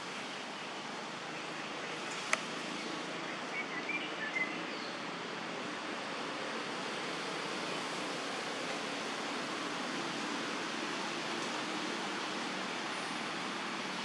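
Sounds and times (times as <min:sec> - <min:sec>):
outdoor ambient hiss: 0:00.0 - 0:14.0.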